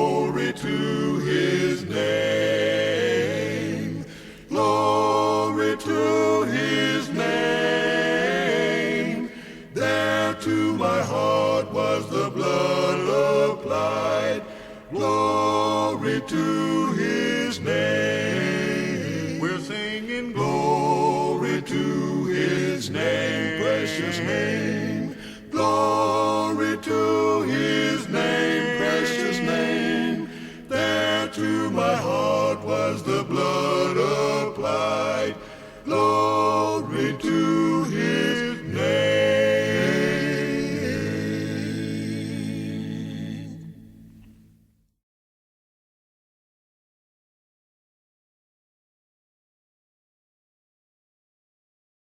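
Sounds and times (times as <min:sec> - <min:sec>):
vocal quartet singing a cappella: 0:00.0 - 0:44.4.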